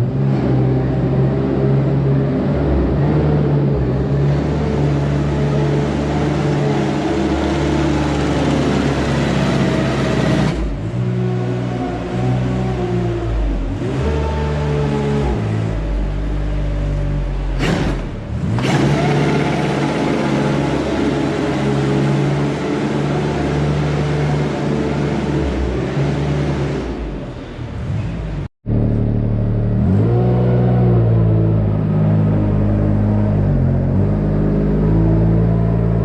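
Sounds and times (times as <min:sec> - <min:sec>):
engine revving: 0:00.0 - 0:36.0.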